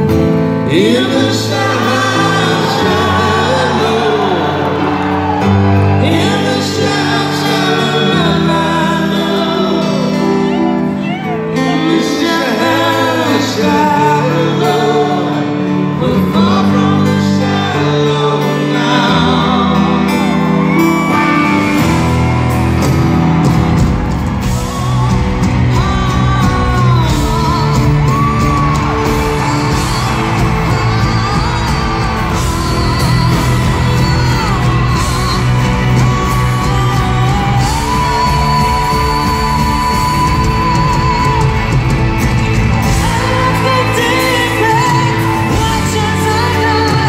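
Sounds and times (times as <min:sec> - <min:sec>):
drums: 0:00.0 - 0:47.0
live band with singer and piano: 0:00.0 - 0:47.0
crowd whooping: 0:00.7 - 0:15.5, 0:16.2 - 0:47.0.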